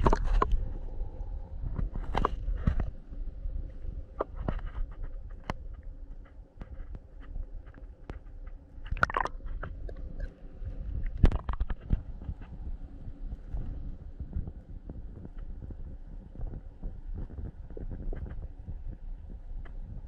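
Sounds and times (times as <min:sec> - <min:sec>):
water: 0:00.0 - 0:20.0
wind: 0:00.0 - 0:20.0.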